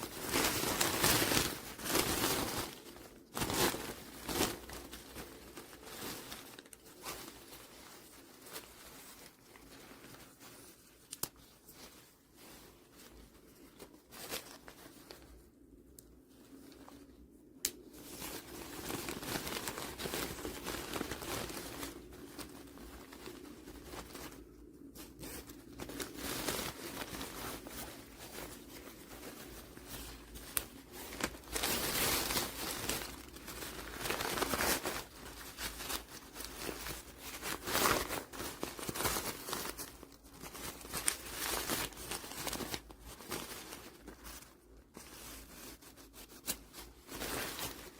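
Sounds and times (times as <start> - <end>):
soft material crinkling and rustling: 0.0 - 47.9.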